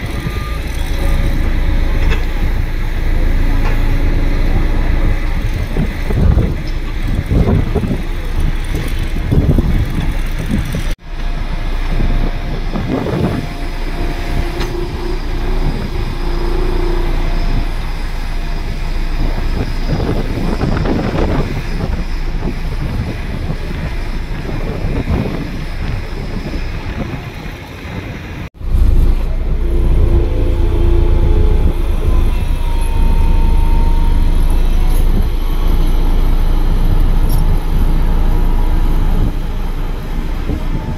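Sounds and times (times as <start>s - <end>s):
diesel engines under load: 0.0s - 40.9s.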